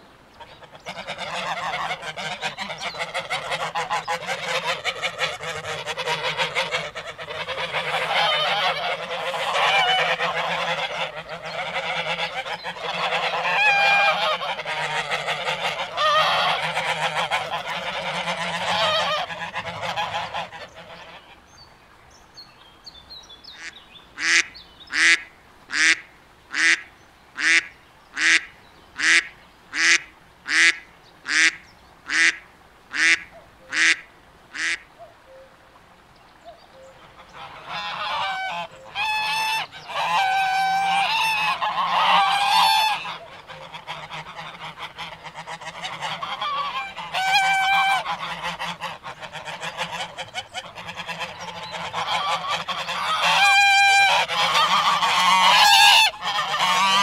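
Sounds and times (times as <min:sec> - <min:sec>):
waterfowl flock calling: 0:00.4 - 0:21.4, 0:23.6 - 0:26.8, 0:27.4 - 0:35.5, 0:36.8 - 0:57.0.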